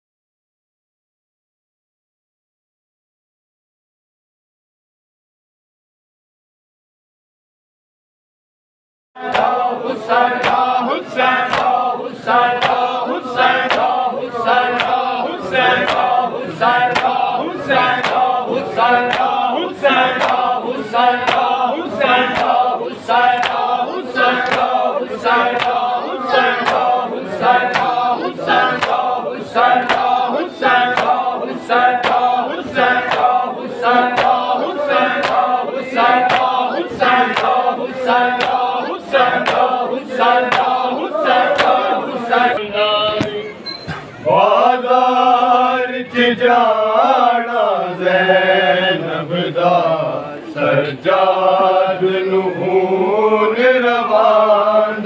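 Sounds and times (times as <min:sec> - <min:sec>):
men chanting a lament: 0:09.2 - 0:43.6, 0:44.2 - 0:55.0.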